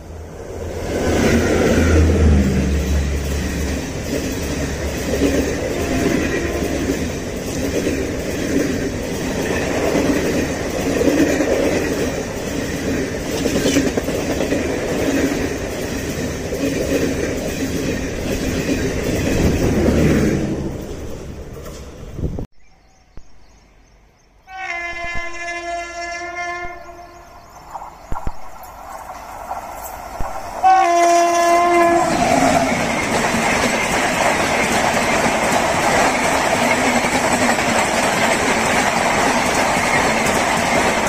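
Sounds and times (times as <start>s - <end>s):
train wheels rumbling on rail: 0.0s - 22.5s, 24.9s - 41.0s.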